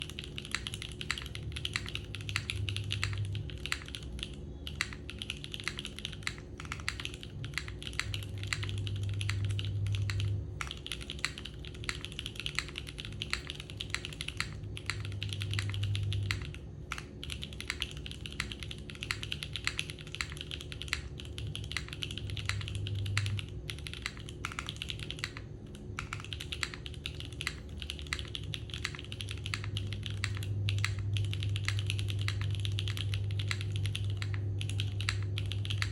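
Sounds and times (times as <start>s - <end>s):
mechanical keyboard typing: 0.0s - 35.9s.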